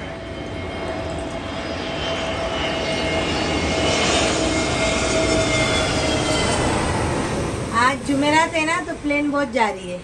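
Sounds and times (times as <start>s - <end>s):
airplane flying over: 0.0s - 10.0s.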